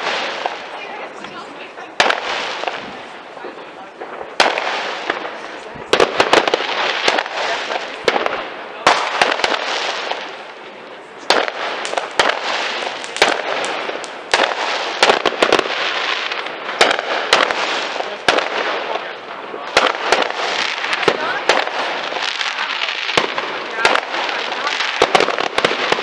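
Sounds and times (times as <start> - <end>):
firecracker bangs: 0.0 - 3.2, 3.8 - 26.0
distant fireworks crackle: 0.0 - 26.0.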